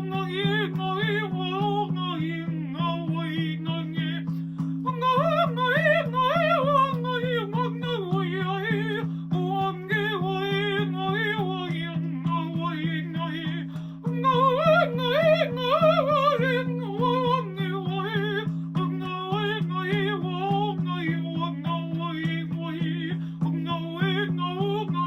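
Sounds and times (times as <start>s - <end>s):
woman singing wordlessly: 0.0s - 25.0s.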